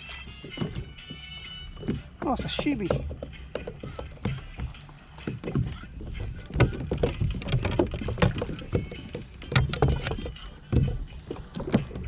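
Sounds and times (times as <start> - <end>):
water rumble: 0.0 - 12.0
wind: 0.0 - 12.0.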